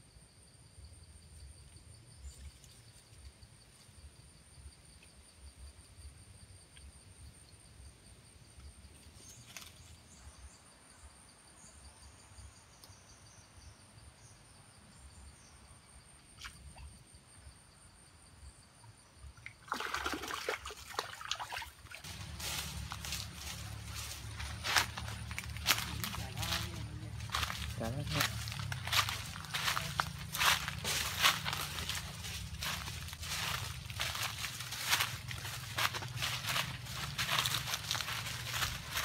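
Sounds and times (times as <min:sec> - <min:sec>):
insects trilling: 0:00.1 - 0:39.0.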